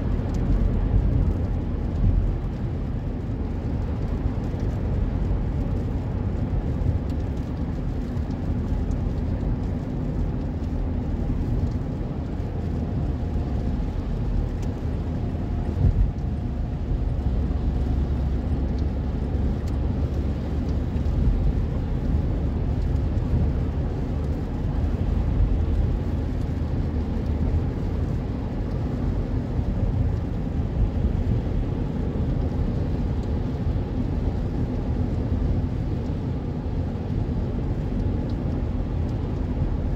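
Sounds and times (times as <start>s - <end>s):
car tyres and engine rumble: 0.0s - 39.9s
rain tapping on windscreen: 0.0s - 39.9s.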